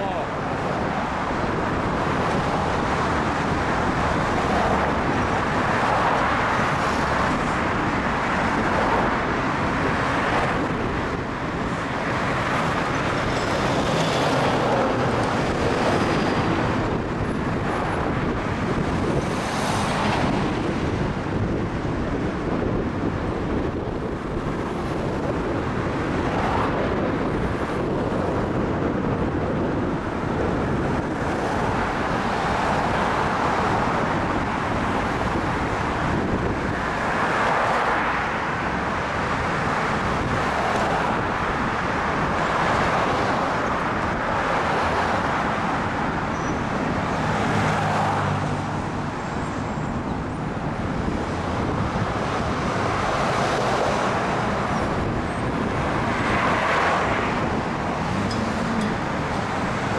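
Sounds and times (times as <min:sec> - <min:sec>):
cars and trucks driving past: 0:00.0 - 0:59.9.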